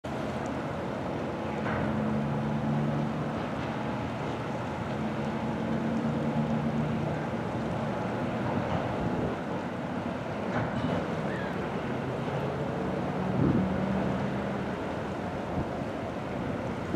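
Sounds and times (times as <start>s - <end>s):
wind: 0.0s - 16.9s
ship engines droning: 0.1s - 16.9s
water rushing: 0.1s - 16.9s.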